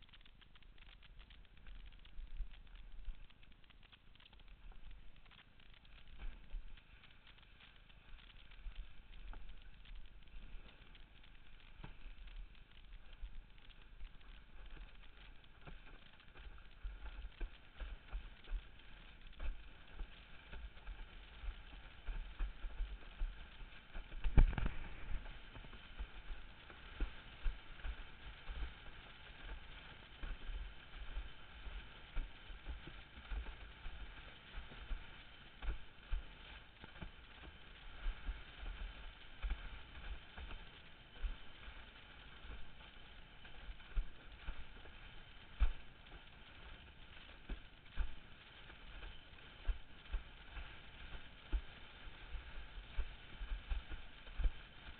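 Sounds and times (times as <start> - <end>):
board rushing over water: 8.0 - 54.9.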